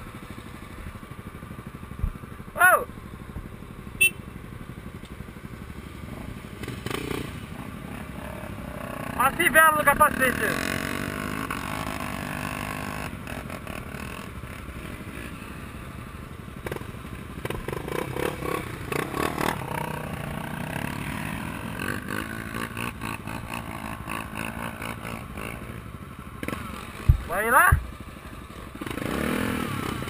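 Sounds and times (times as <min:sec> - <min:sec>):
motorcycles idling: 0:00.0 - 0:30.0.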